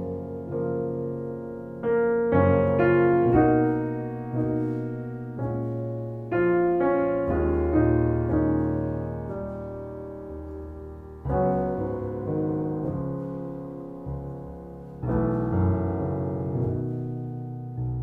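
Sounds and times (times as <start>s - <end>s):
slow gentle piano: 0.0s - 18.0s.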